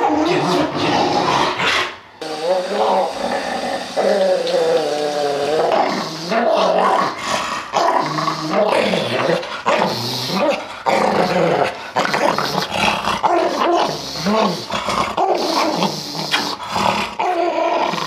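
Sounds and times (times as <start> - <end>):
dog growling: 0.0 - 18.0.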